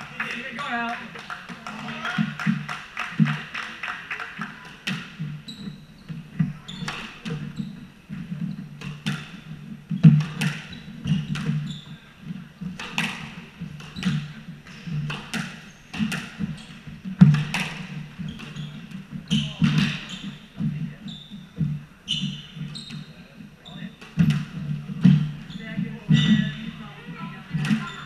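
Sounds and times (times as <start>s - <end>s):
squash ball hitting racquets and walls: 0.0s - 23.2s, 23.9s - 28.0s
shoes squeaking: 4.2s - 28.0s.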